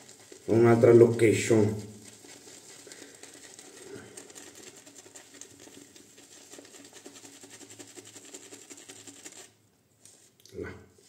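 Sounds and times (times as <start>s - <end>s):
shaving brush on soap: 0.0s - 10.2s.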